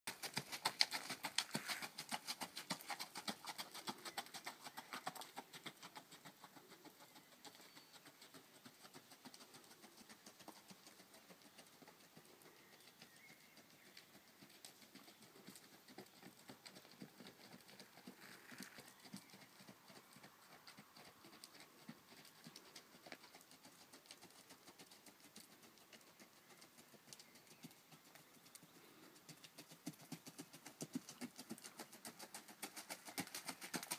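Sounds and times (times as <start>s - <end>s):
horse hoofbeats on dirt: 0.1s - 33.9s.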